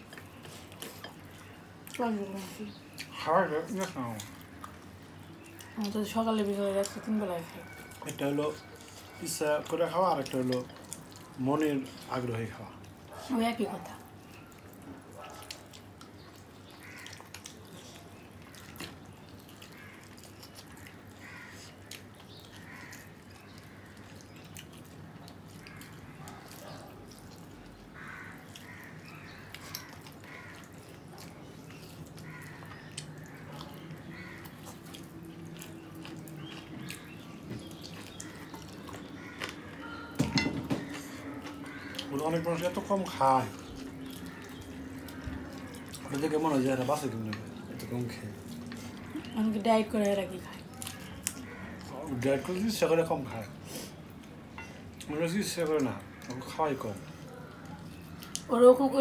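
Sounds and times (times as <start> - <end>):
mouths chewing wetly: 0.0 - 59.0.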